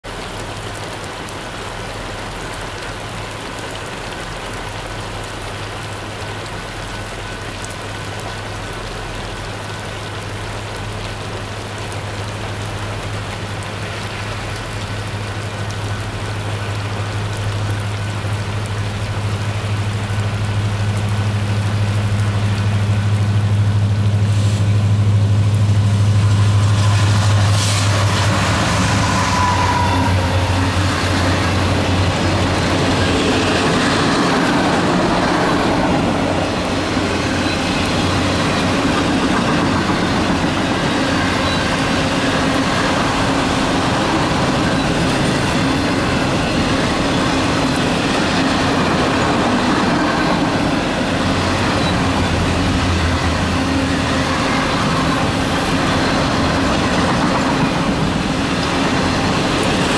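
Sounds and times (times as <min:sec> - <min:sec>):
diesel locomotive engine drone: 0:00.0 - 0:59.9
steady rain: 0:00.0 - 0:59.9.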